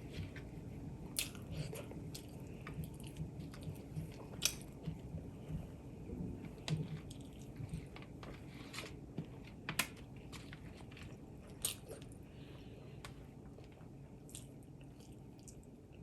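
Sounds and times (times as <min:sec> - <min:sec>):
person chewing food: 0:01.1 - 0:05.8, 0:06.4 - 0:15.8.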